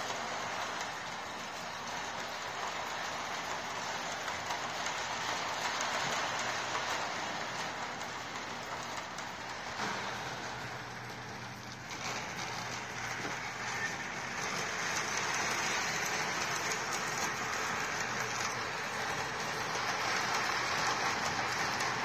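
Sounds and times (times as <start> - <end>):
model train wheels clattering on rails: 0.0 - 22.0.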